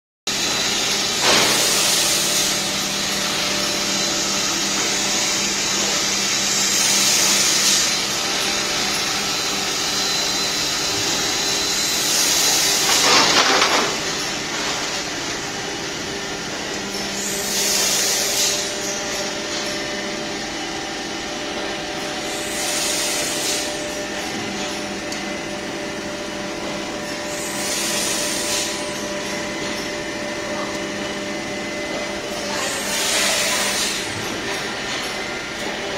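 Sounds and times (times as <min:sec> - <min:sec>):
machine mechanical hum: 0:00.3 - 0:35.9.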